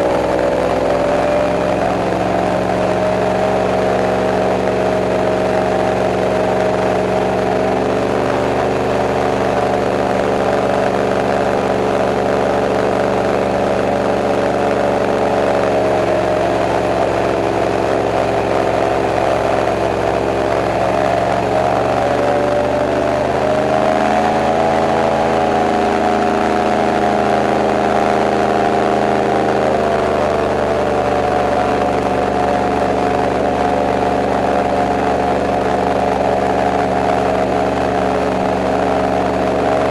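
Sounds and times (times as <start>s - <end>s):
airboat engine and propeller running: 0.0s - 39.9s.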